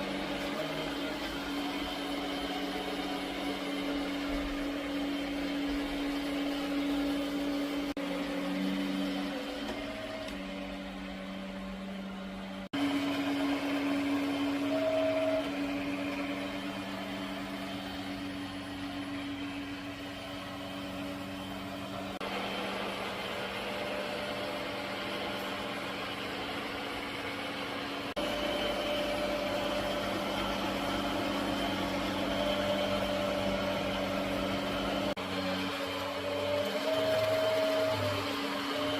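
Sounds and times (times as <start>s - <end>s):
robot vacuum cleaner running: 0.0s - 38.9s.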